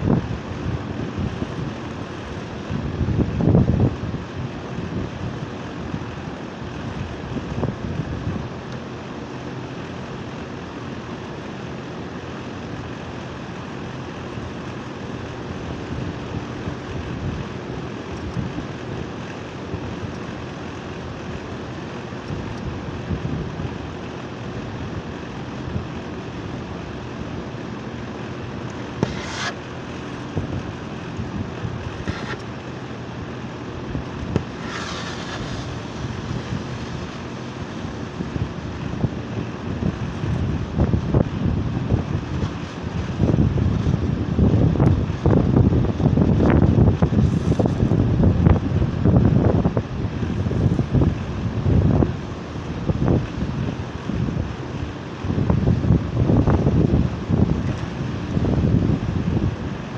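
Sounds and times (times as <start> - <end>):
air conditioner compressor hum: 0.0 - 59.9
fan air rushing: 0.0 - 59.9.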